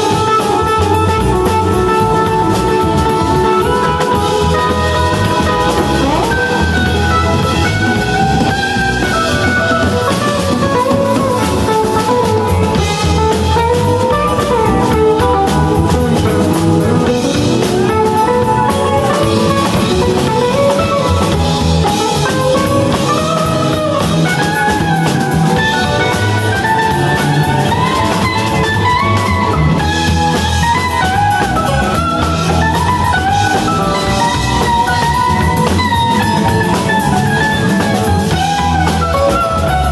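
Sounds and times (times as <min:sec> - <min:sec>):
electric guitar lead bending pitch: 0:00.0 - 0:39.9
rock band playing: 0:00.0 - 0:39.9.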